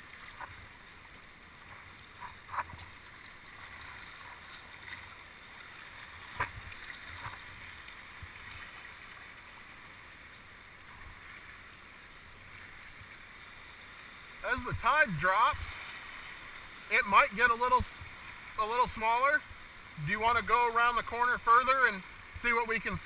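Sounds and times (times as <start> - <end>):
water lapping around a kayak: 0.0 - 23.0.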